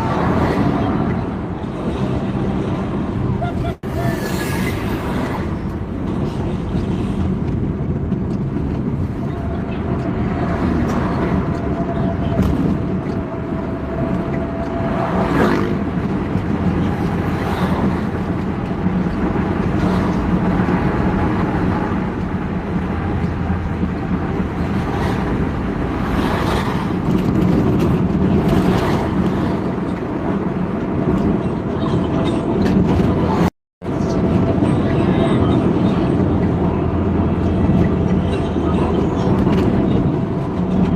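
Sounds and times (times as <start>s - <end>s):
heavy vehicles passing: 0.0s - 40.9s.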